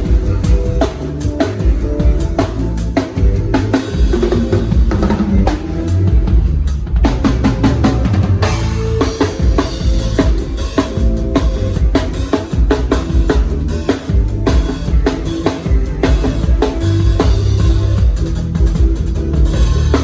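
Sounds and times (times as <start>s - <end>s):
drum kit groove: 0.0s - 20.0s
live band music: 0.0s - 20.0s.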